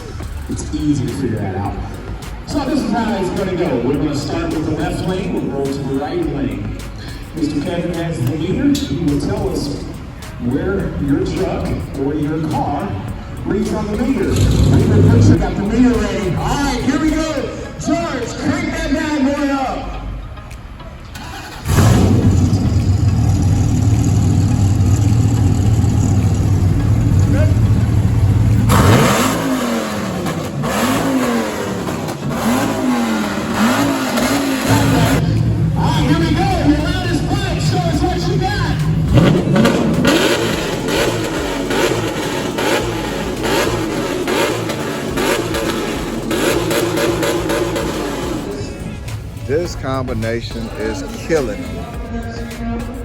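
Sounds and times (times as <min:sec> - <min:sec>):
loud car engine exhaust: 0:00.0 - 0:51.9.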